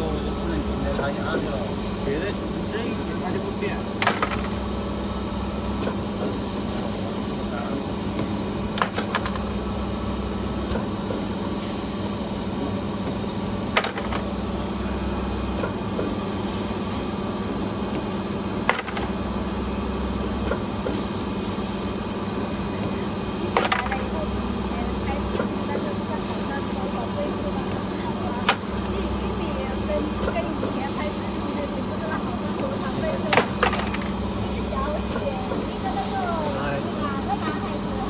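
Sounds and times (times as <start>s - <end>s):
spring forming machine humming: 0.0s - 38.0s.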